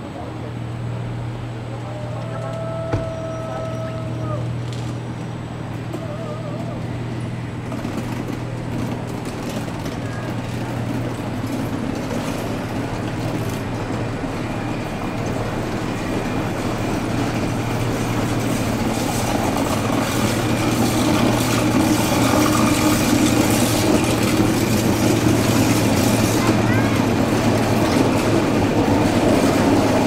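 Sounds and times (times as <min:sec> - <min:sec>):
electric train rolling past: 0:00.0 - 0:30.0.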